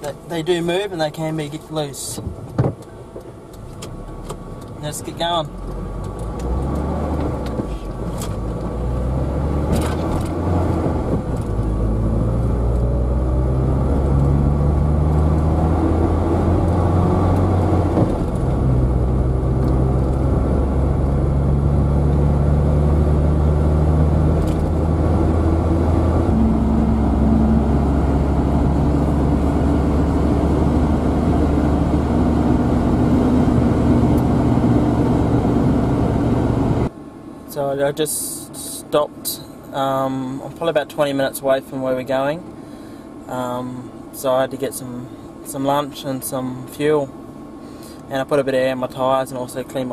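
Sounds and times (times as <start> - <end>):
road noise: 0.0 - 49.9
van engine from inside cabin: 0.0 - 49.9.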